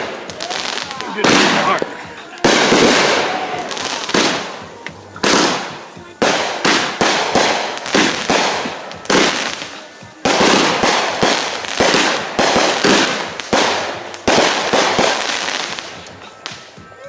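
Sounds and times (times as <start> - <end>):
firework bangs with crackle: 0.0 - 17.0.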